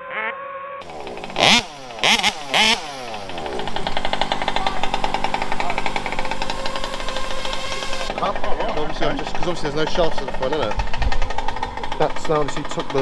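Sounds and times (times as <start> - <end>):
small engine revving: 0.8 - 13.0.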